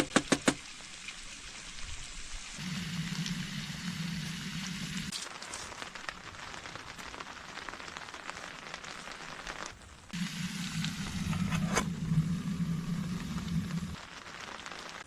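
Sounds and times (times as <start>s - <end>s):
rain pattering: 0.1s - 15.0s
low rush with crackles: 1.0s - 15.0s.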